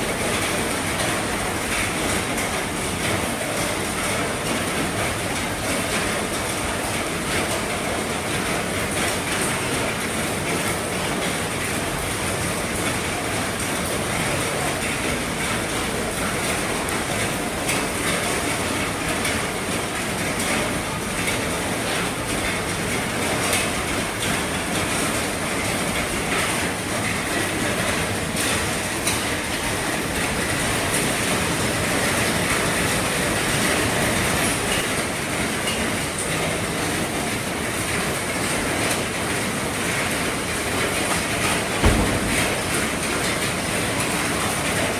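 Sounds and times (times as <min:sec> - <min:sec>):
heavy rain on a roof: 0:00.0 - 0:44.9.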